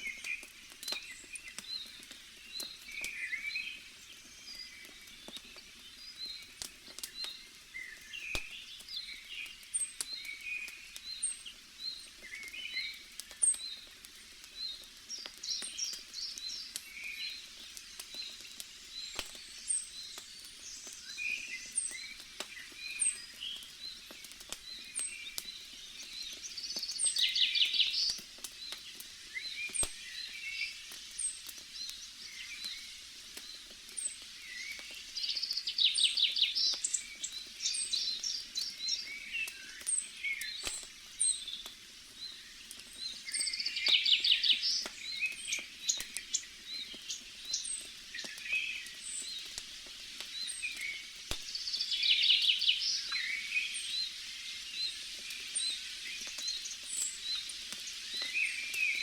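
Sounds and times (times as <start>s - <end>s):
campfire crackles: 0.0s - 59.0s
forest birds chirping and trilling: 0.0s - 59.0s.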